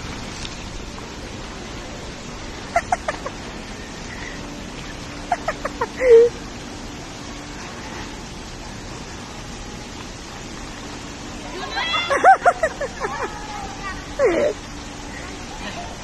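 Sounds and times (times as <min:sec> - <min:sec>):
pool water splashing: 0:00.0 - 0:16.0.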